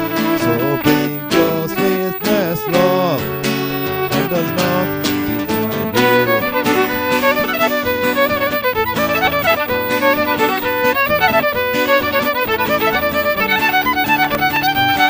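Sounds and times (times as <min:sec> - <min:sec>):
fiddle playing melody: 0:00.0 - 0:15.0
guitar accompaniment: 0:00.0 - 0:15.0.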